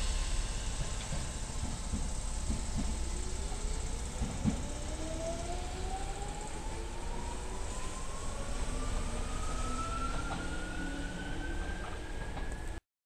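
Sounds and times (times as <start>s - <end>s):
electric train motor whine: 0.0s - 12.8s
train low rumble: 0.0s - 12.8s.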